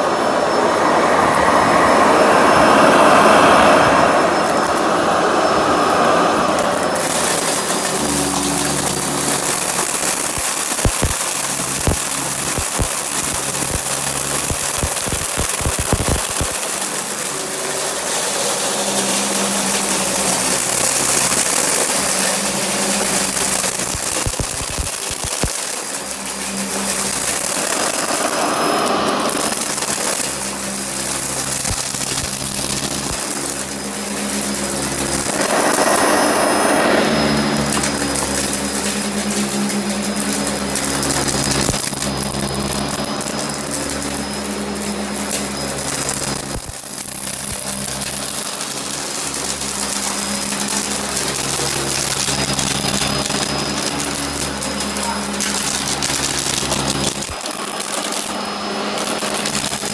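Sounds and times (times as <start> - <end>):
vacuum cleaner motor drone: 0.0 - 59.9
vacuum sucking up beads: 0.0 - 59.9.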